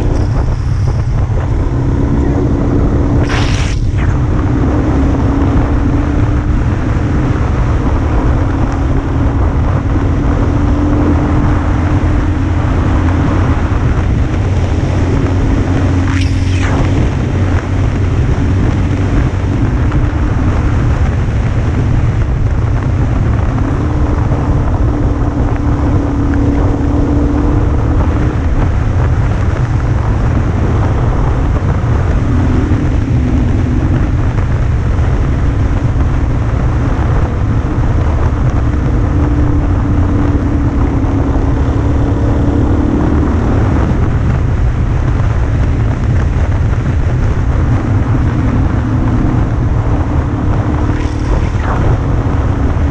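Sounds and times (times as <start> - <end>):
motorcycle engine running: 0.0 - 52.9
wind noise on microphone: 0.0 - 52.9.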